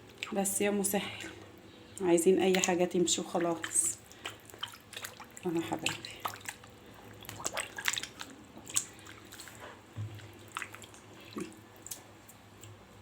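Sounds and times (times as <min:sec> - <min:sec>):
drips: 0:00.1 - 0:12.8.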